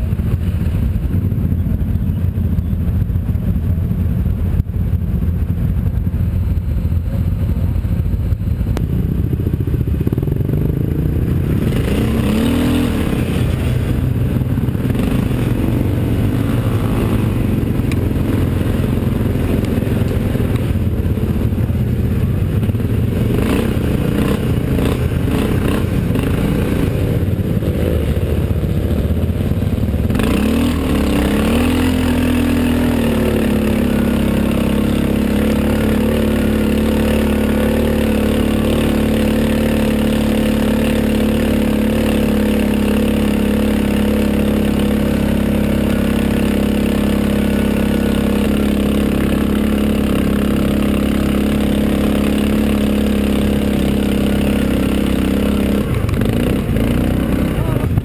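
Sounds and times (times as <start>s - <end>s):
quad bike engine: 0.0s - 58.0s.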